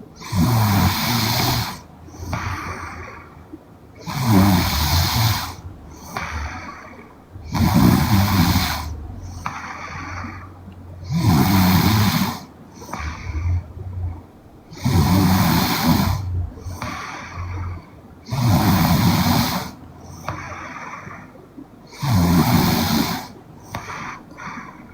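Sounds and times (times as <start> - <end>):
soft breathing: 0.0 - 24.9
woman snoring: 0.2 - 3.2, 4.0 - 19.8, 21.9 - 23.8.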